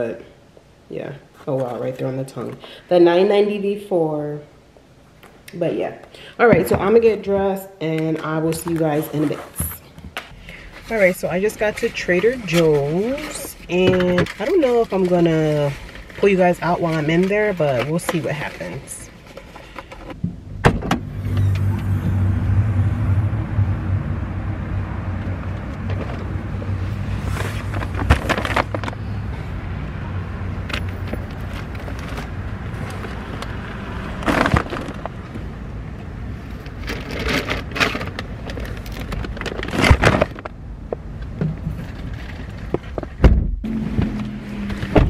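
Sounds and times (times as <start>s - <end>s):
low vehicle hum: 8.7s - 45.0s.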